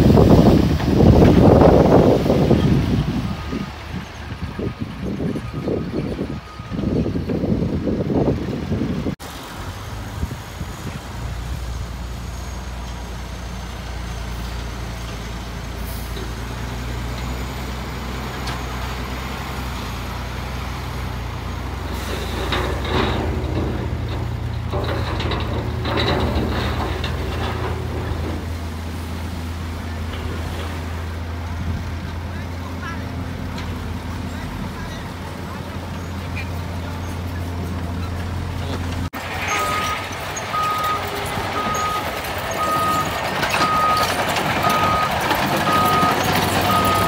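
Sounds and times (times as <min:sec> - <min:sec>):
diesel truck engines running: 0:00.0 - 0:47.0.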